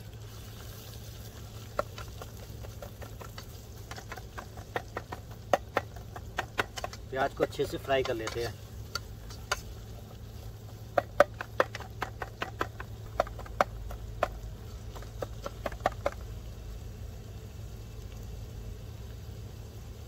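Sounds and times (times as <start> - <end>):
onions frying in oil: 0.0 - 20.0
steady low hum: 0.0 - 20.0.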